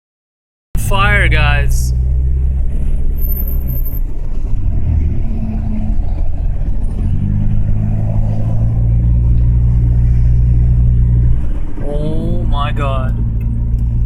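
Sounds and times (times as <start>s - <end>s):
car engine and road noise: 0.8s - 14.0s.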